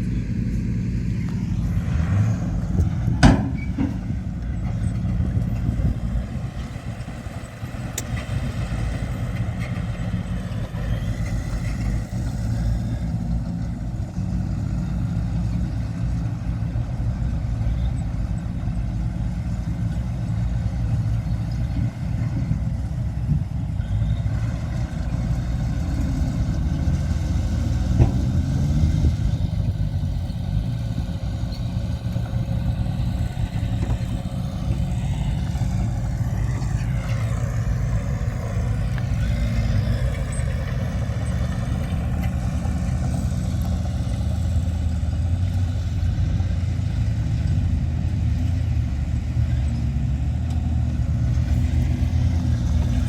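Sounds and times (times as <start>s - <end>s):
diesel machinery engine running: 0.0s - 53.0s.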